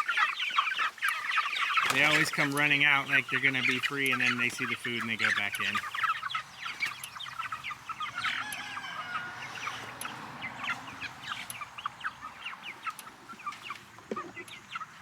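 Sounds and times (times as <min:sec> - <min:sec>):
chickens cheeping and clucking: 0:00.0 - 0:15.0.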